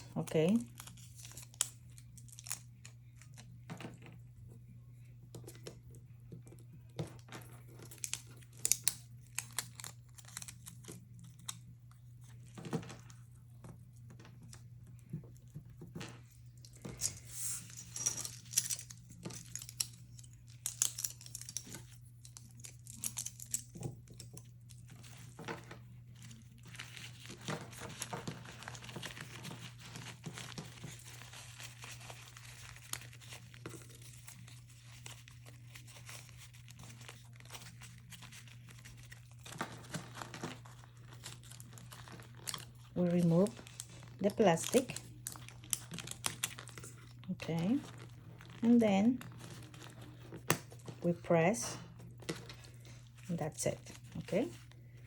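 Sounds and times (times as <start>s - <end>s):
paper and plastic crinkling: 0.0s - 4.2s, 6.4s - 55.0s.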